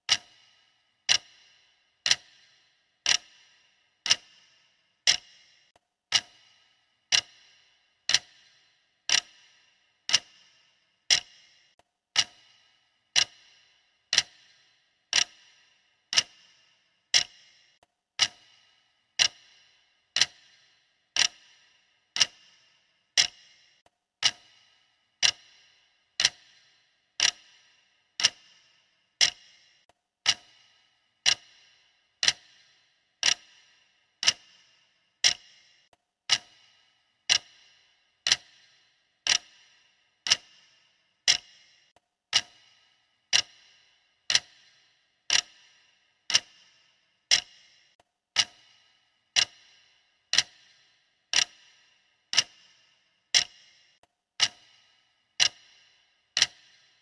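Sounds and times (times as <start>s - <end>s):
timer ticking: 0.0s - 57.0s.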